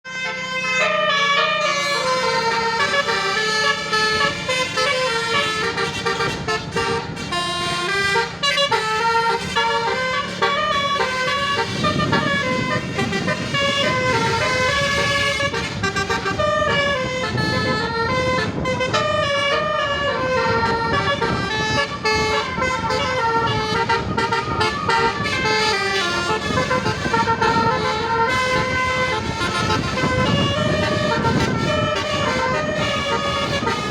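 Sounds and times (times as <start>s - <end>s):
multi-tone bus horn tune: 0.0s - 33.9s.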